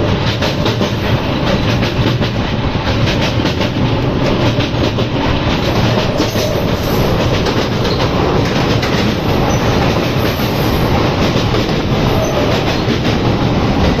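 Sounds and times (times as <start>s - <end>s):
train rumble and rush: 0.0s - 14.0s
wheels clicking over track: 0.2s - 14.0s.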